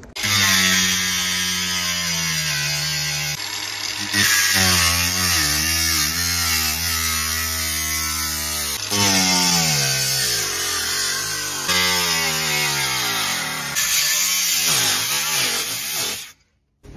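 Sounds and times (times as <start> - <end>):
angle grinder cutting steel: 0.0 - 16.4.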